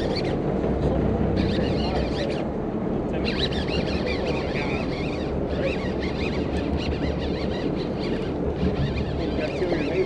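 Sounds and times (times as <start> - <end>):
boat engine running: 0.0 - 10.0
wind buffeting microphone: 0.0 - 10.0.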